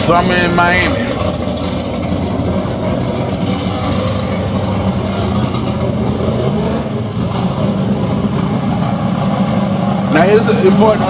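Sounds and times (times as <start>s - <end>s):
racing car engine idling: 0.0s - 11.0s.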